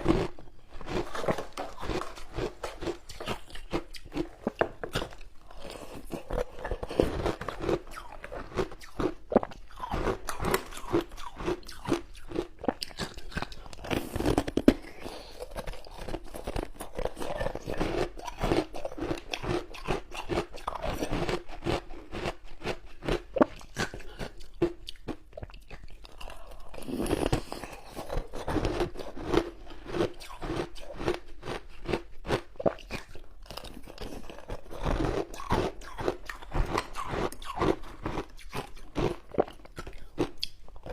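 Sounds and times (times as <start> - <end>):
person crunching frozen ice: 0.0 - 25.1, 26.2 - 40.9.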